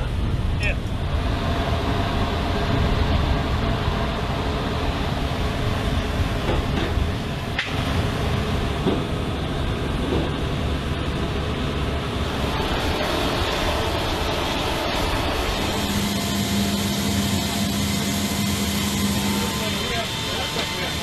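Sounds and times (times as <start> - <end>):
vehicle and aircraft engine rumble: 0.0 - 21.0.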